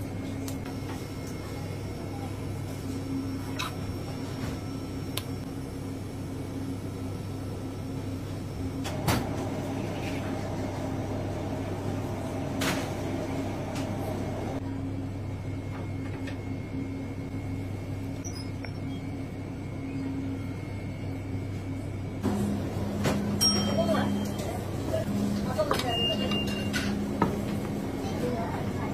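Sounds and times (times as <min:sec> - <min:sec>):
higher machine hum: 0:00.0 - 0:28.9
kitchen machinery humming: 0:00.0 - 0:28.9.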